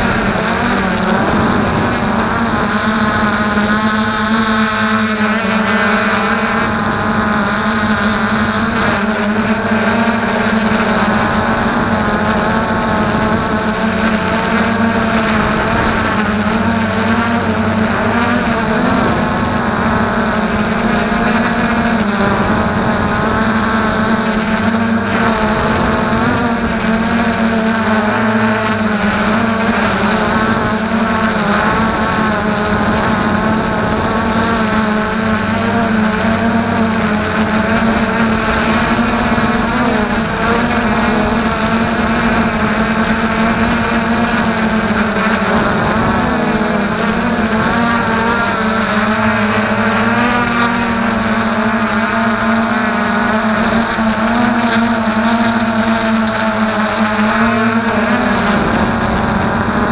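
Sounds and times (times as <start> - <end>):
drone propellers whirring: 0.0 - 59.9.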